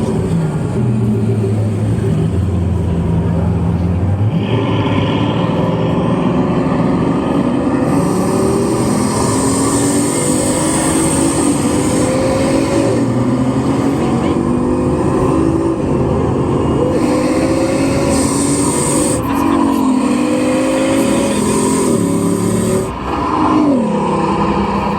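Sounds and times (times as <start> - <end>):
car engine revving under load: 0.0 - 24.9.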